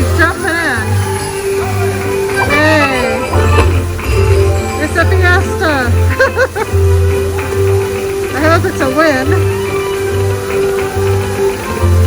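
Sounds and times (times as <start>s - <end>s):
upbeat slot machine game music: 0.0s - 12.0s.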